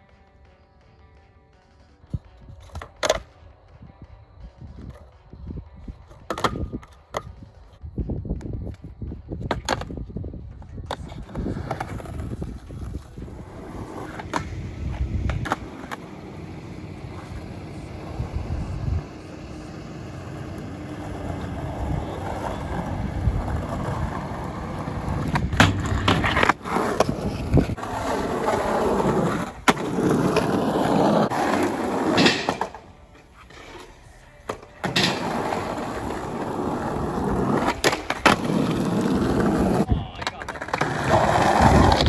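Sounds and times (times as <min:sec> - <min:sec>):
skateboard wheels rolling on asphalt: 0:00.0 - 0:42.0
skateboard clacking on ground: 0:02.5 - 0:03.4, 0:06.0 - 0:42.0.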